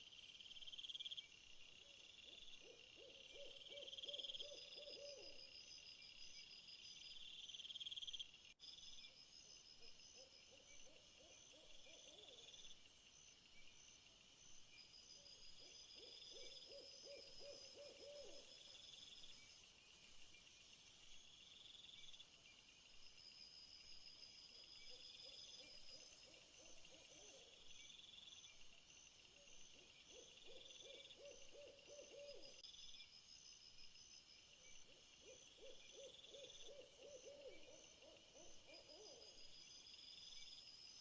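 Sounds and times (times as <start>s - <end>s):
crickets and insects chirping: 0.0s - 41.0s.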